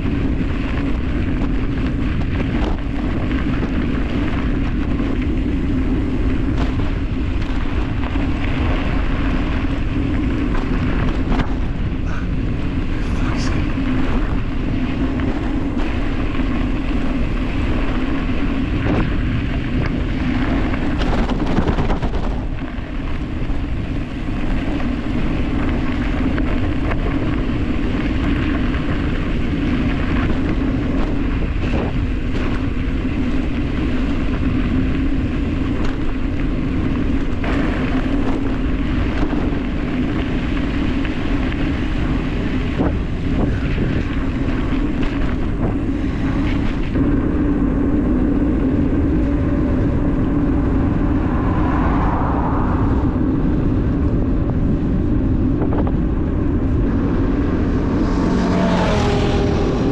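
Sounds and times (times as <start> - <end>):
tyres rumbling over dirt road: 0.0 - 59.9
wind rushing over microphone: 0.0 - 59.9.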